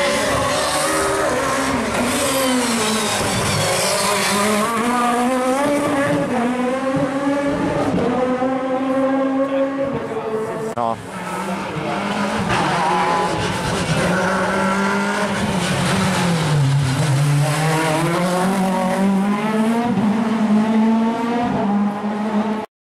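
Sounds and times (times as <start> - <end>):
rally car engine revving: 0.0 - 22.7.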